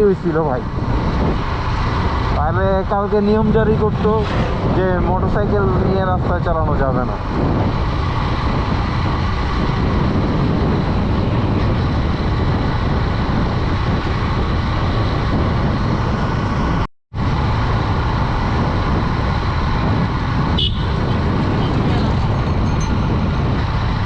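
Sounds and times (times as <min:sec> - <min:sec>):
motorcycle road noise: 0:00.0 - 0:24.0
wind rush on microphone: 0:00.0 - 0:24.0.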